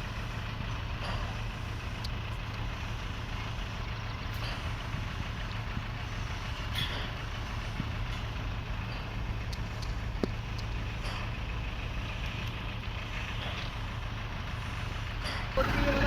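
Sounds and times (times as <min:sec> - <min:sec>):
diesel machinery rumbling: 0:00.0 - 0:16.0.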